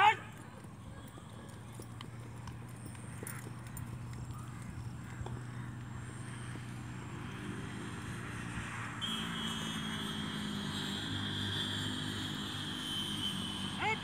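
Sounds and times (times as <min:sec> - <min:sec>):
engine running: 0:00.1 - 0:14.0.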